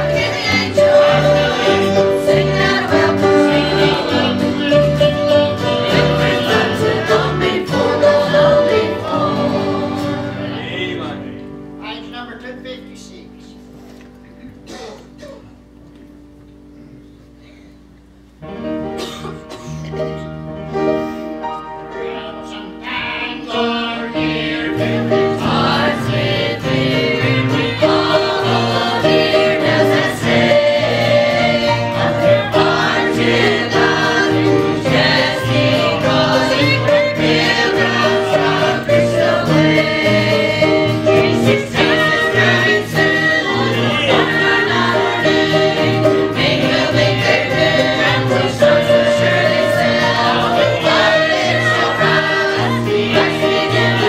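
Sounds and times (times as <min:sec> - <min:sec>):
choir singing a hymn: 0:00.0 - 0:11.8, 0:21.5 - 0:54.0.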